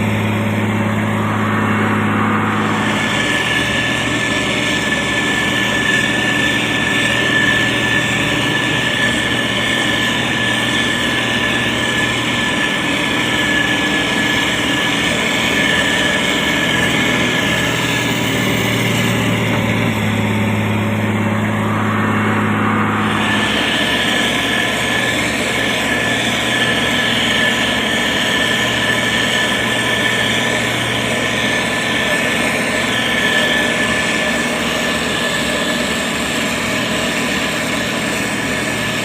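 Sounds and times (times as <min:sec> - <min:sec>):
diesel engine running: 0:00.0 - 0:39.0
steady high whine: 0:00.0 - 0:39.0.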